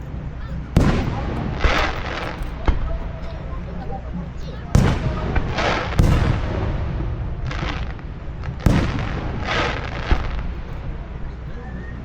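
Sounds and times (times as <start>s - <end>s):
fireworks booming: 0.0s - 11.6s
fireworks crackling hiss: 0.0s - 12.0s.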